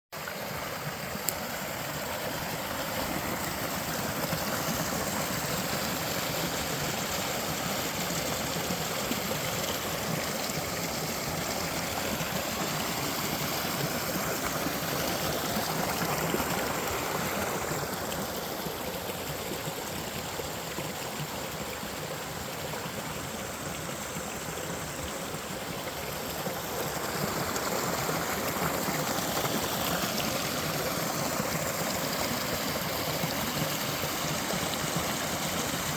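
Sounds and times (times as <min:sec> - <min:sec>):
stream of running water: 0:00.0 - 0:35.9.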